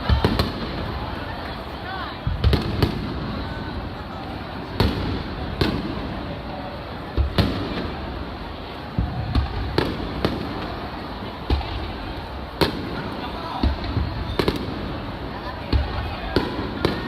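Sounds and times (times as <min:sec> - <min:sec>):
fireworks booming: 0:00.0 - 0:17.0.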